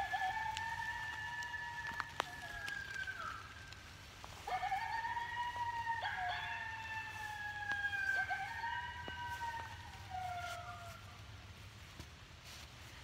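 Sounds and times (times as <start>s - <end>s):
coyote howl call: 0.0s - 11.2s.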